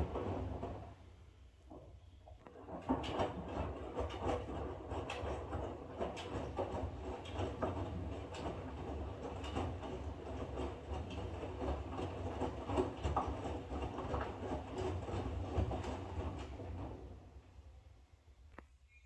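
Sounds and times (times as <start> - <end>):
laundry splashing in drum: 0.0 - 1.0, 2.5 - 17.4
washing machine motor hum: 0.0 - 18.1.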